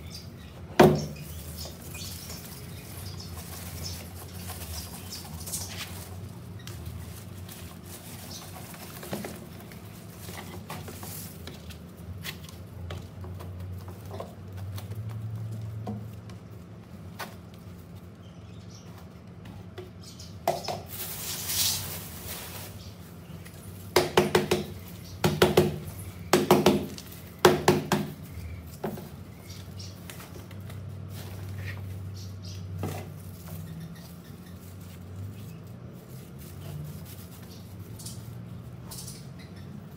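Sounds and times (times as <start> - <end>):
soil and plastic rustling: 0.2 - 39.9.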